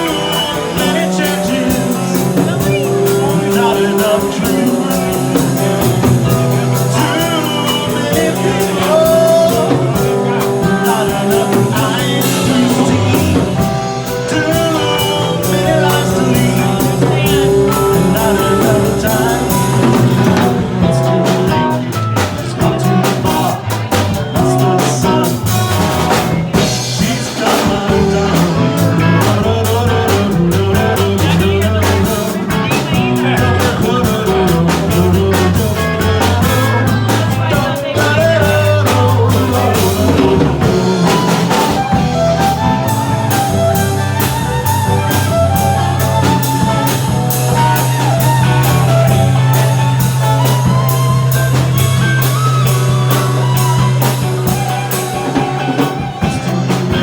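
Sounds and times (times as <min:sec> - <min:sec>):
drum kit beat: 0:00.0 - 0:57.0
live band playing: 0:00.0 - 0:57.0
person singing: 0:00.0 - 0:57.0.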